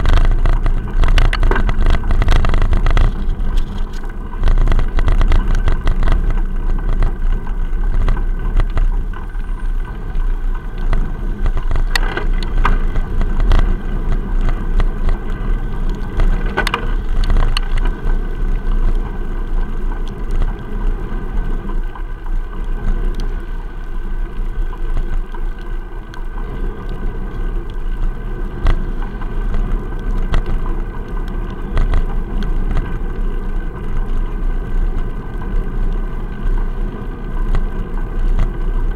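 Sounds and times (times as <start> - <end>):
low rumble and rattle: 0.0 - 38.9
wind: 0.0 - 38.9.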